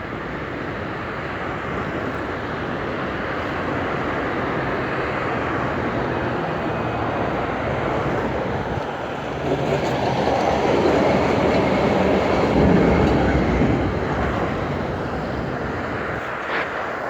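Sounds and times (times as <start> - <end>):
road noise: 0.0 - 17.0
wind rush: 0.0 - 17.0
passing vehicle rumble: 1.5 - 17.0.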